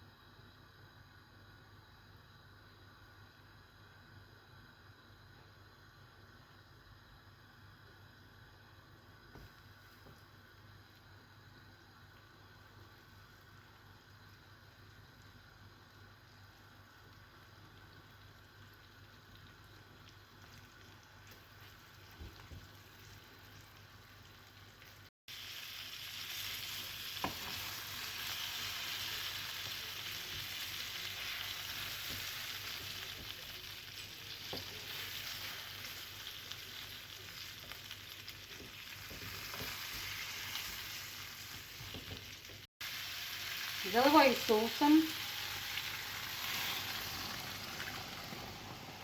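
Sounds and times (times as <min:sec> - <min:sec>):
food frying in oil: 0:04.5 - 0:49.0.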